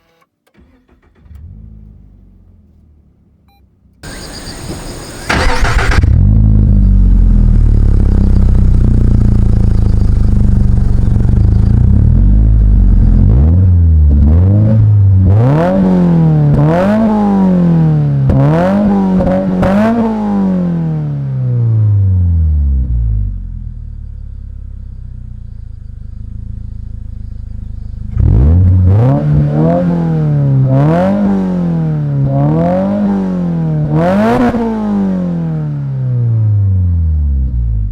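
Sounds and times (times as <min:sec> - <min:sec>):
car engine starting and revving: 0:00.5 - 0:37.9.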